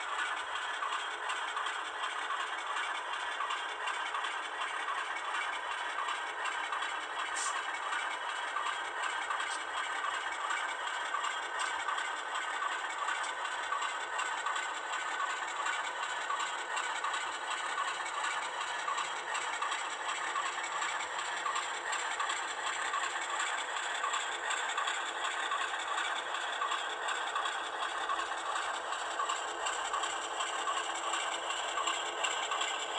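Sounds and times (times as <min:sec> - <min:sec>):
model train wheels rattling on rail: 0:00.0 - 0:32.9.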